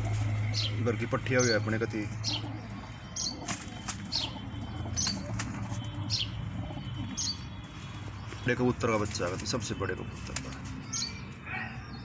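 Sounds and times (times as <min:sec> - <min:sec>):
pigeons chirping: 0:00.0 - 0:12.0.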